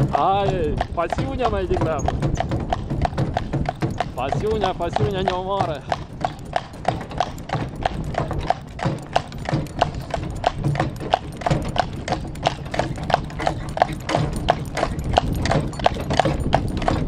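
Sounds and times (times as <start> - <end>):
horse hooves clip-clopping: 0.0 - 17.0
low steady rumble: 0.0 - 17.0.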